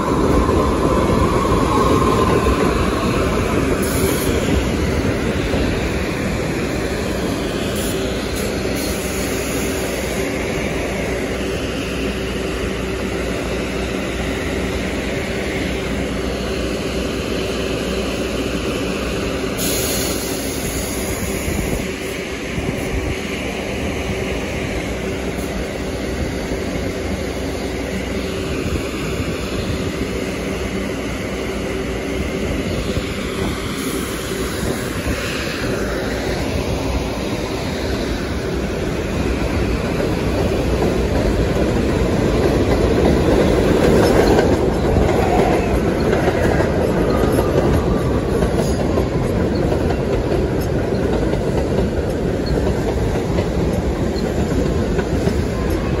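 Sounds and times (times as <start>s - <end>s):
train rumbling on steel structure: 0.0s - 56.0s.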